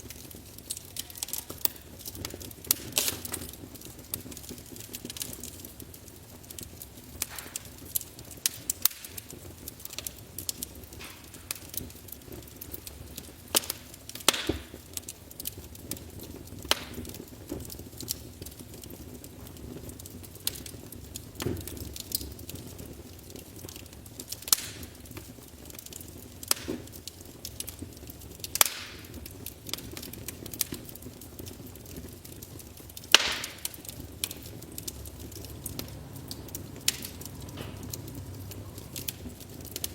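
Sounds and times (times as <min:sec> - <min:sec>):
fire crackling and popping: 0:00.0 - 0:39.9
low rush of flame: 0:00.0 - 0:39.9.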